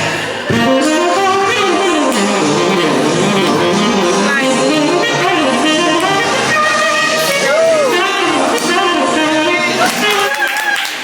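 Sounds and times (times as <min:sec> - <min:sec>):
guitar-like melody: 0:00.5 - 0:10.1
jazz band playing: 0:00.5 - 0:10.2.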